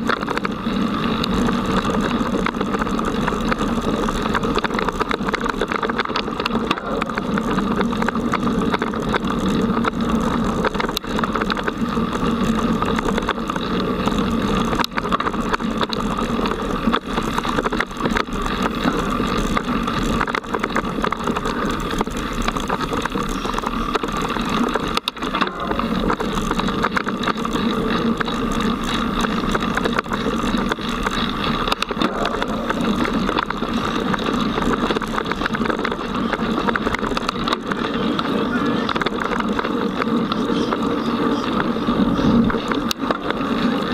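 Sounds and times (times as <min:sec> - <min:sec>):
knocks and clicks over bumps: 0:00.0 - 0:43.9
mountain bike rattling on dirt trail: 0:00.0 - 0:43.9.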